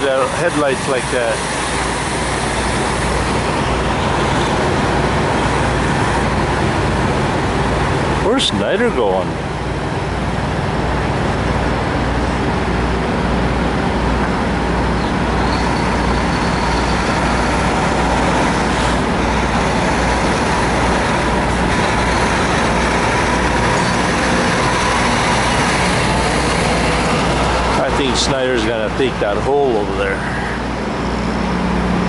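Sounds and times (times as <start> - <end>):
truck diesel engines running: 0.0 - 32.0.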